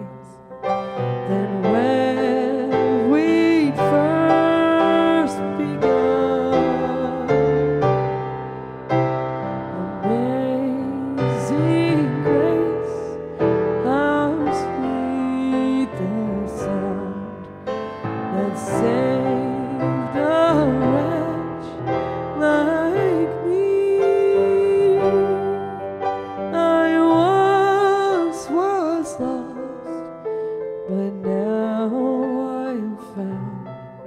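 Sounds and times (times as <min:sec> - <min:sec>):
woman singing into a microphone: 0:00.0 - 0:00.4, 0:01.0 - 0:07.7, 0:09.6 - 0:30.3, 0:30.9 - 0:34.0
grand piano: 0:00.0 - 0:34.0.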